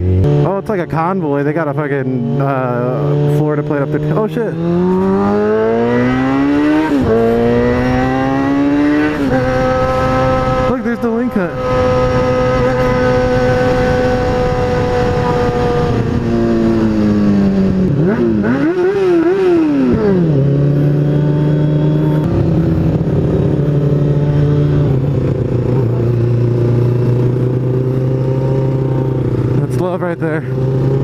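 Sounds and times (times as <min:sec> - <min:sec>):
motorcycle engine running: 0:00.0 - 0:31.0
motorcycle throttle blips: 0:01.9 - 0:31.0.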